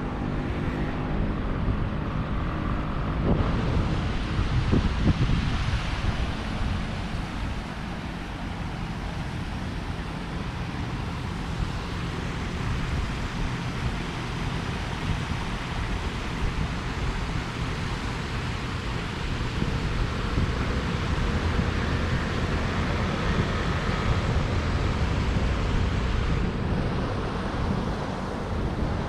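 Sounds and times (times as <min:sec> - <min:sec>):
road traffic hum: 0:00.0 - 0:29.0
wind on microphone: 0:00.0 - 0:29.0.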